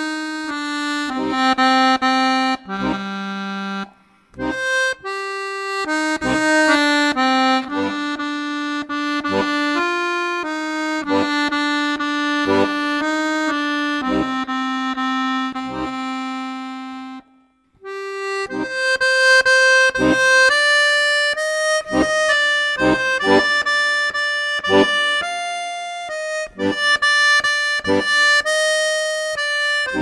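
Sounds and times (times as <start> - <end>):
accordion melody with bass notes: 0.0 - 30.0.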